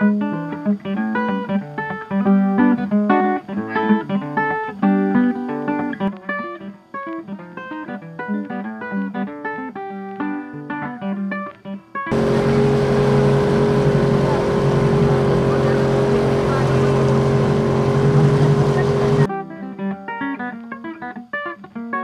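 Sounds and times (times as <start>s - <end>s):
acoustic guitar plucking: 0.0s - 22.0s.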